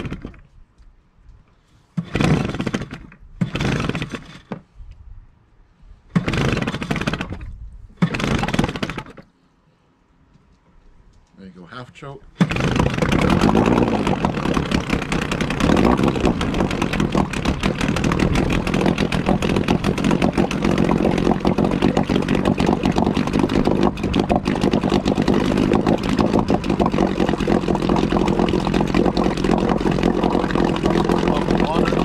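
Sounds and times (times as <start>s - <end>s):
outboard motor running: 0.0s - 0.4s, 2.0s - 4.6s, 6.1s - 9.2s, 12.4s - 32.0s.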